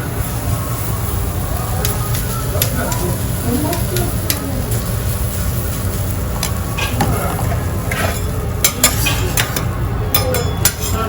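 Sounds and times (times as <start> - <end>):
food sizzling on a griddle: 0.0 - 11.0
metal utensils clicking: 1.8 - 11.0.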